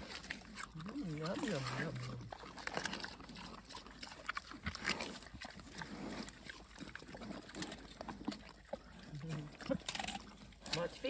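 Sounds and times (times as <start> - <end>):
pigs crunching food: 0.0 - 11.0.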